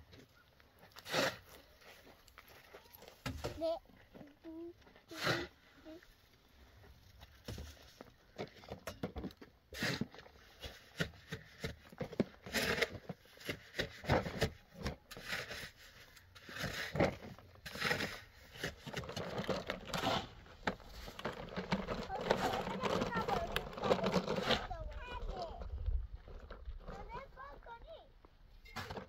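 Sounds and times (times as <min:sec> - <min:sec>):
sand and gravel scraping: 0:00.0 - 0:08.7, 0:09.7 - 0:29.0.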